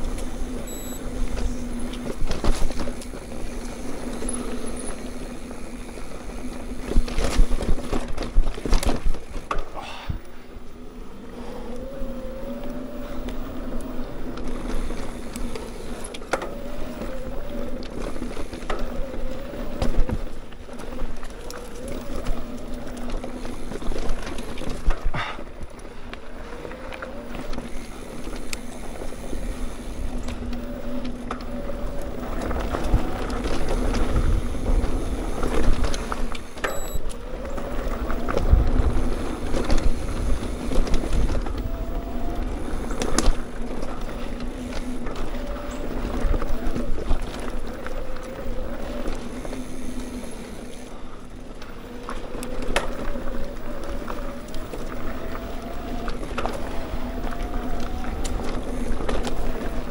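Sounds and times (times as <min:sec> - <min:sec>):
bike rattling: 0:00.0 - 0:59.9
bike tyres rolling on dirt: 0:00.0 - 0:59.9
faint whirring tone: 0:00.0 - 0:59.9.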